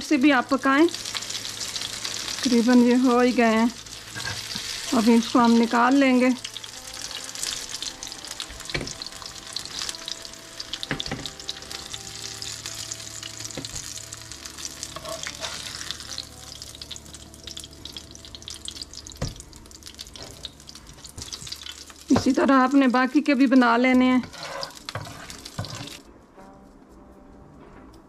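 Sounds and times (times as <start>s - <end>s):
oil sizzling in a frying pan: 0.0s - 26.1s.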